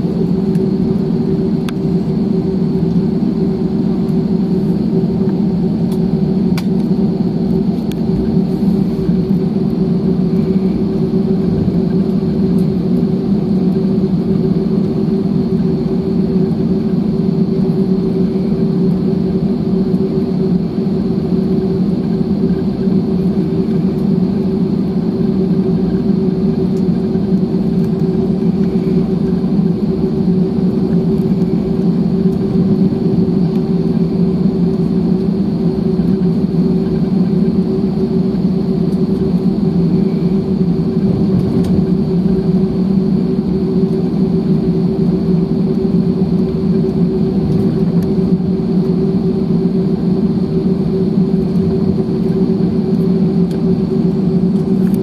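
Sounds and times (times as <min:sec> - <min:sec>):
airplane cabin engine hum: 0:00.0 - 0:55.0.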